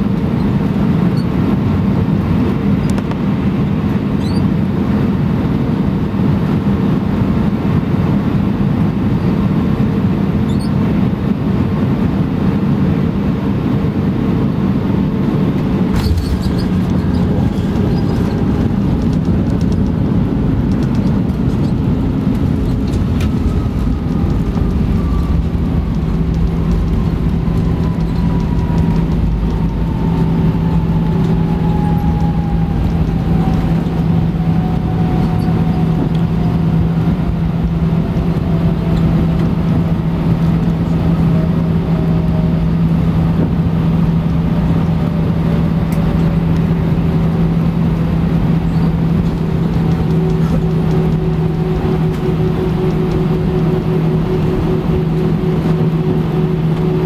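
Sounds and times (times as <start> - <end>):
airplane cabin rumble: 0.0 - 57.0
jet engine whine falling: 0.0 - 57.0.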